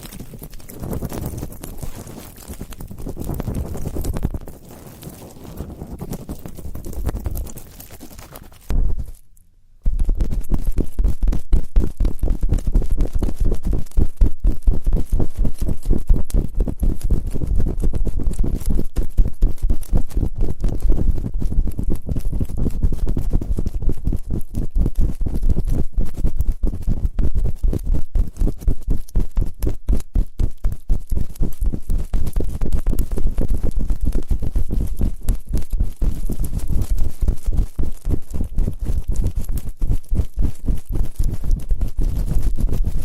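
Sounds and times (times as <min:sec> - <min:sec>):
crackling taps and rubbing on microphone: 0:00.0 - 0:43.0.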